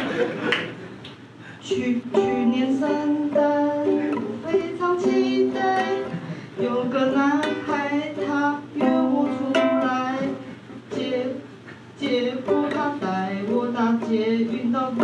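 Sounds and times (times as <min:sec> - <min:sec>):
ukulele strumming: 0:01.6 - 0:15.0
woman singing: 0:01.6 - 0:15.0.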